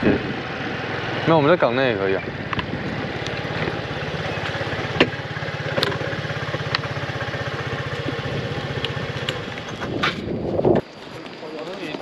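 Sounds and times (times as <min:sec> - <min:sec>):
small engine running steadily: 0:00.0 - 0:10.7.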